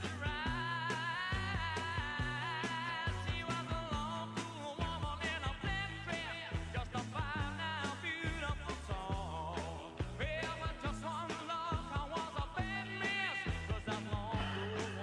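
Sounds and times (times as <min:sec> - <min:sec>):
song with vocals bass and drums: 0:00.0 - 0:15.0.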